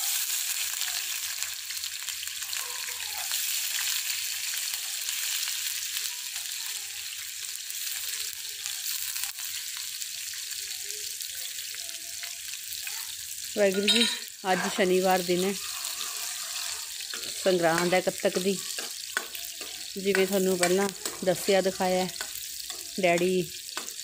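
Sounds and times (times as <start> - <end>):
spices sizzling in hot oil: 0.0 - 24.0.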